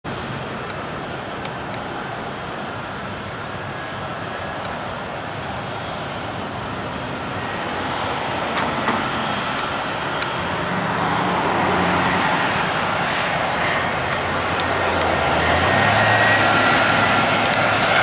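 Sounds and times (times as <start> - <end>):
airliner jet engine noise: 0.0 - 18.0.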